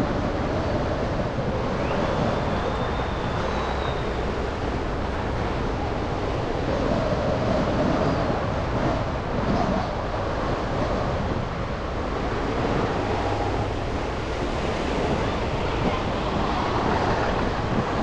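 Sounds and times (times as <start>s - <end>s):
city traffic and road noise: 0.0s - 18.0s.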